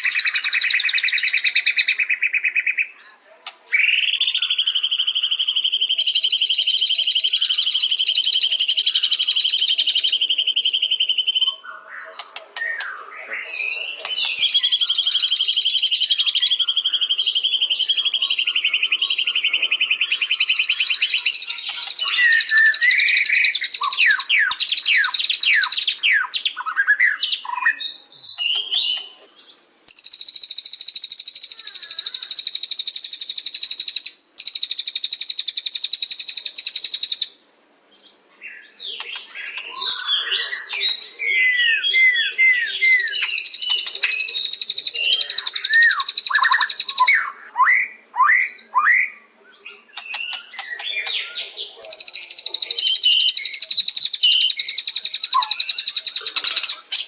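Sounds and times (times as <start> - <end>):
songbird singing trills and whistles: 0.0 - 57.0.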